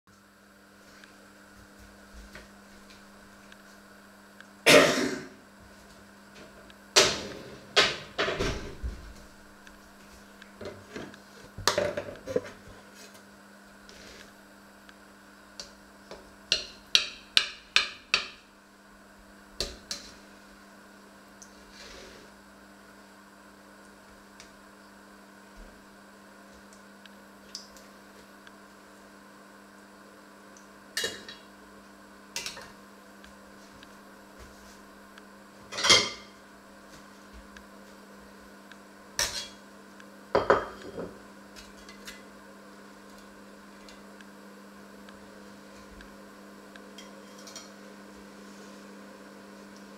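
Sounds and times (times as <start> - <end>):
steady low hum: 0.1 - 49.9.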